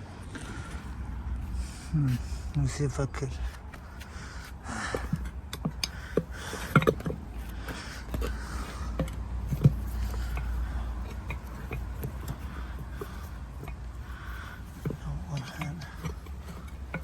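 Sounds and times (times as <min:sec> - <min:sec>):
hand tools knocking and scraping: 0:03.3 - 0:17.0.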